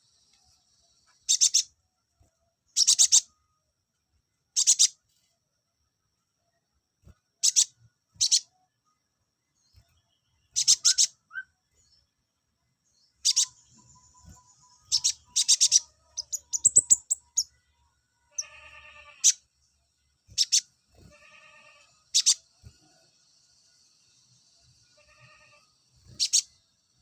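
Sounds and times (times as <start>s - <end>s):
songbird chirps: 0.0s - 27.0s.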